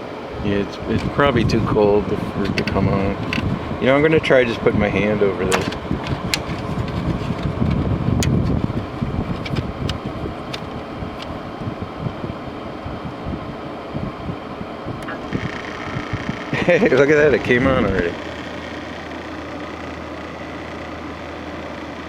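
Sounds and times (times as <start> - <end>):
air conditioner fan whoosh: 0.0 - 22.0.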